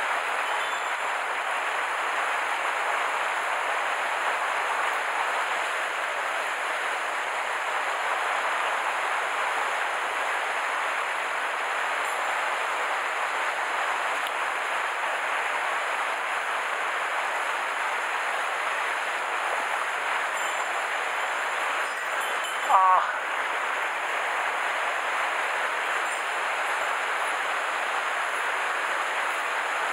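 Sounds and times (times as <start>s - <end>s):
stream water rushing: 0.0s - 29.9s.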